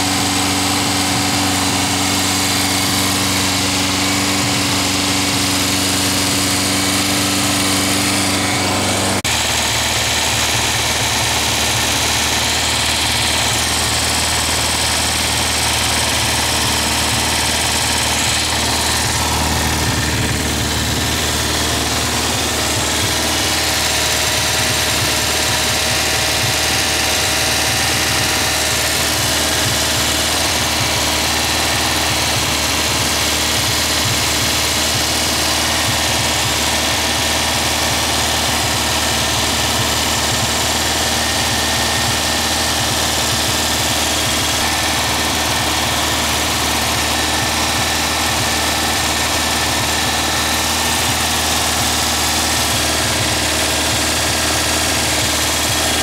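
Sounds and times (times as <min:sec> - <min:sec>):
car engine at fast idle: 0:00.0 - 0:56.0
engine cooling fan: 0:00.0 - 0:56.0
open exhaust: 0:00.0 - 0:56.0.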